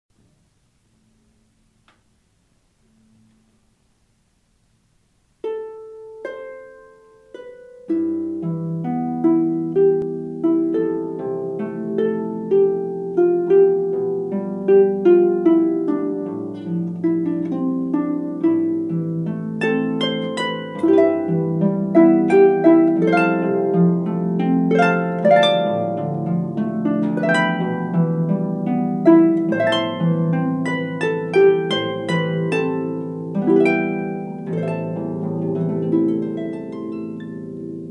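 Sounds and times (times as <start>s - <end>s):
plucked string instrumental music: 5.4s - 37.9s.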